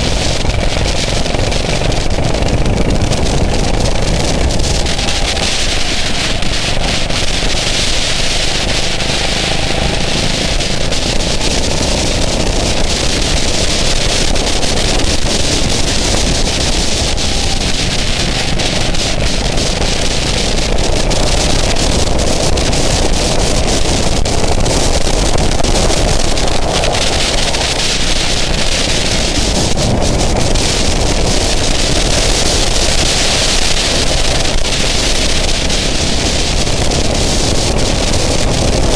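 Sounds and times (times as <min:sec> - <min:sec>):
go-kart engine running: 0:00.0 - 0:38.9
wind noise on microphone: 0:00.0 - 0:38.9.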